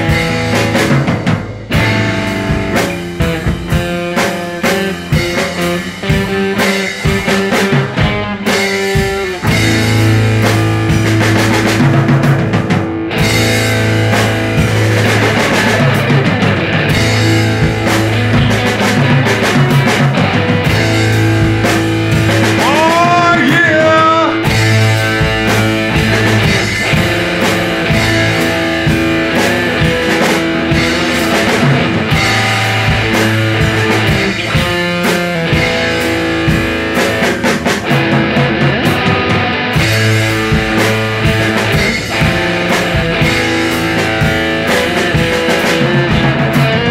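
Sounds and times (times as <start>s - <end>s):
electric guitar bending notes: 0.0s - 46.9s
garage rock band: 0.0s - 46.9s.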